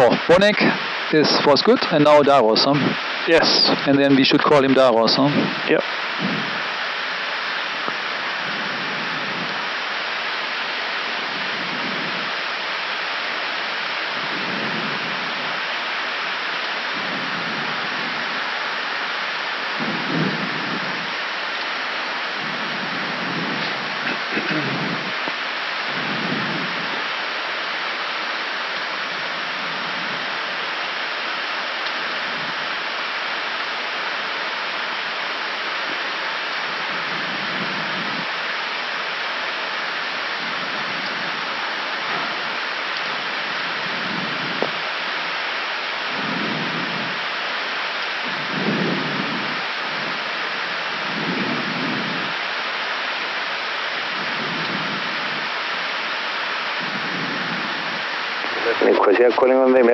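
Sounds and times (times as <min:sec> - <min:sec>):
rushing airflow in cockpit: 0:00.0 - 0:59.4.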